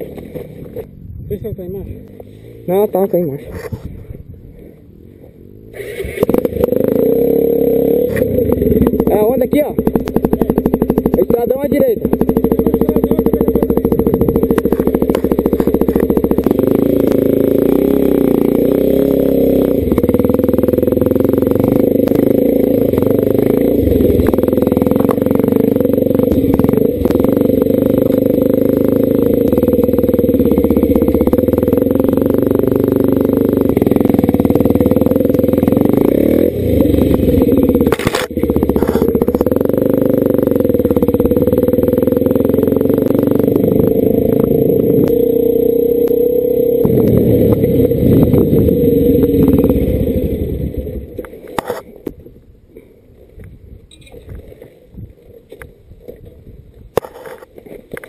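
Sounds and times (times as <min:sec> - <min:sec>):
dirt bike engine running: 0:00.0 - 0:52.2.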